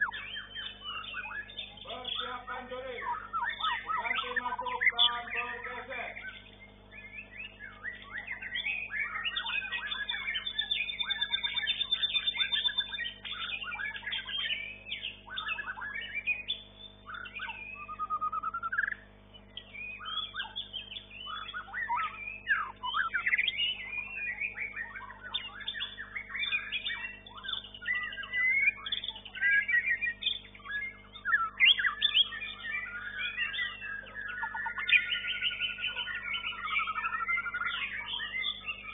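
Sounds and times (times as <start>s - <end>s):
songbird whistles and trills: 0.0s - 38.9s.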